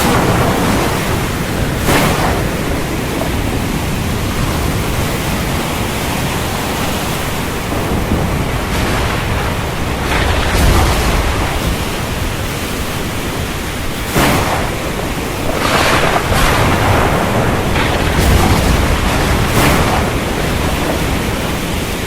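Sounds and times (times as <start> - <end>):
ocean surf: 0.0 - 22.0
storm wind: 0.0 - 22.0.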